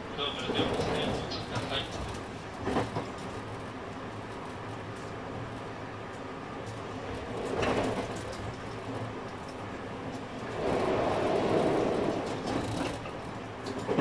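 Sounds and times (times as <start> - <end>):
train low hum: 0.0 - 14.0
train rumble: 0.0 - 14.0.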